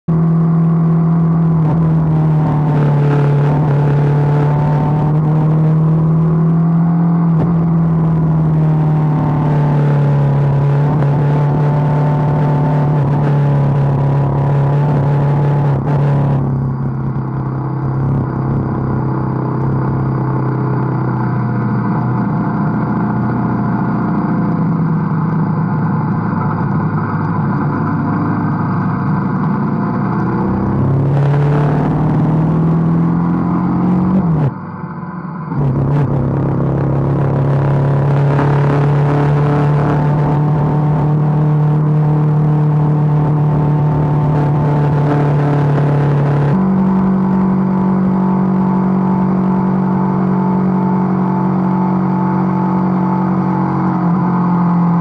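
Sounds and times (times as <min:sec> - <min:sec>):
road noise: 0:00.0 - 0:55.0
motorcycle engine running: 0:00.1 - 0:55.0.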